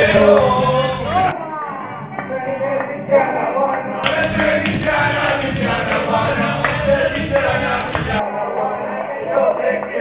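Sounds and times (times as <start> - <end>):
karaoke backing track: 0.0 - 10.0
person singing: 0.0 - 10.0.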